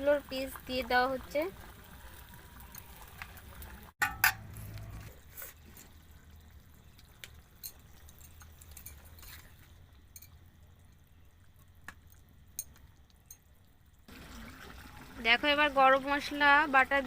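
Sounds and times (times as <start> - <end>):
faint rumble of simmering food: 0.0 - 17.0.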